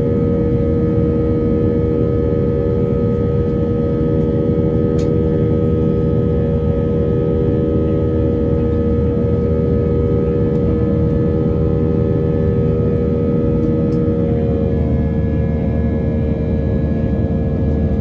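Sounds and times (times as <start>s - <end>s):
jet engines rumbling and whining: 0.0s - 18.0s.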